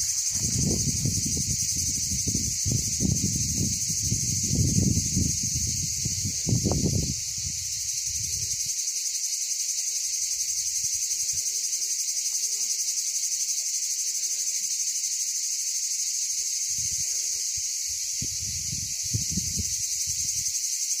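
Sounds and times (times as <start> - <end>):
insects chirping chorus: 0.0 - 21.0.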